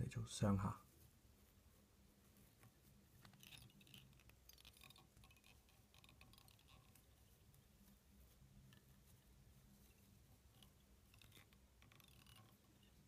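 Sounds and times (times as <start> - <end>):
low steady hum: 0.0 - 13.0
faint scratchy crackles: 0.4 - 13.0.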